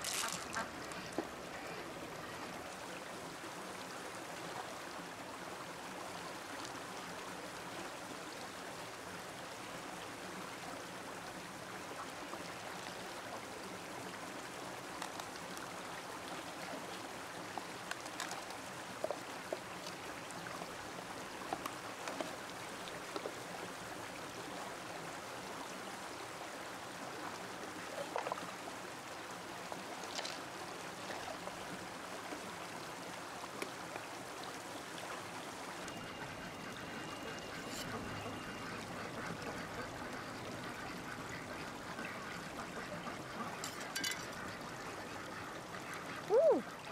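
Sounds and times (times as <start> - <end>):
stream water running: 0.0 - 46.9.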